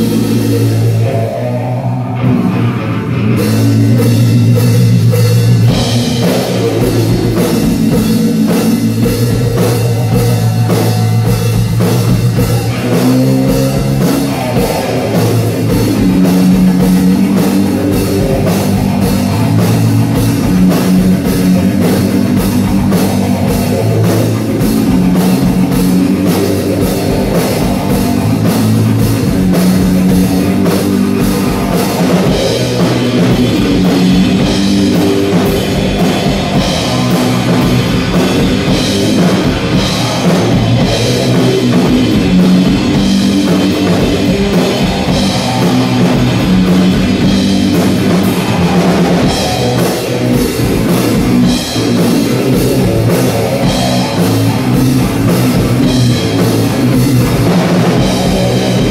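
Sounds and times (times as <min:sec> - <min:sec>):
drum kit: 0:00.0 - 0:58.9
electric guitar riffs: 0:00.0 - 0:58.9.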